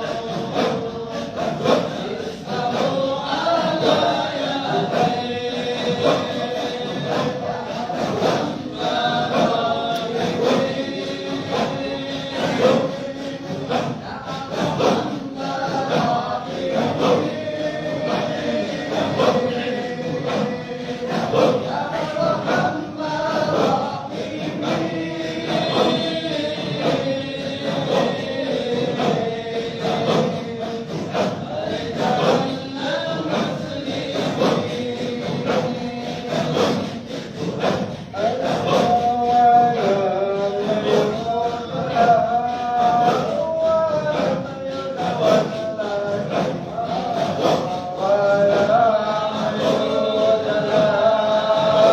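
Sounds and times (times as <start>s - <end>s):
group chanting in unison: 0.0s - 51.9s.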